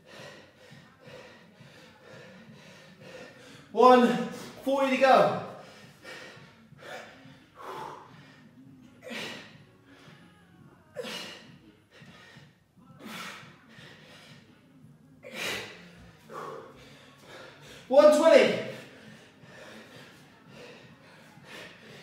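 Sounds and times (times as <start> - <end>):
man breathing hard: 0.0 - 4.6, 5.4 - 10.4, 11.0 - 14.6, 15.2 - 22.0.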